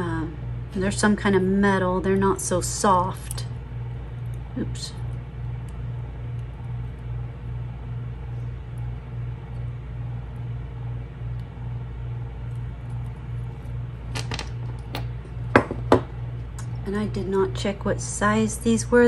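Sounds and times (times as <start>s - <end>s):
low pulsing hum: 0.0s - 19.0s.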